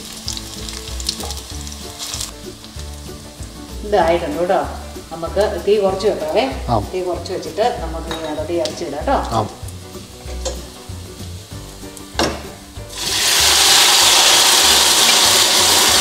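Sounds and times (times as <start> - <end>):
meat sizzling in hot pan: 0.0 - 16.0.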